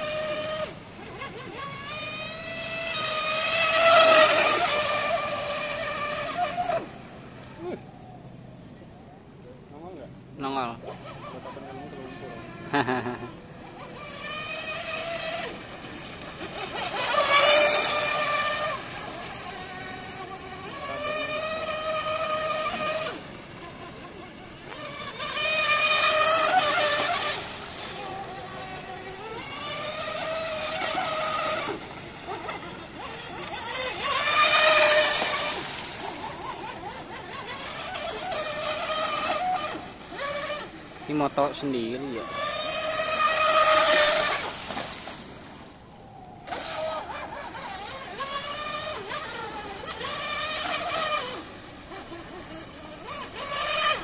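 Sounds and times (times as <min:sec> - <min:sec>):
electric motor whining: 0:00.0 - 0:08.2, 0:09.7 - 0:54.0.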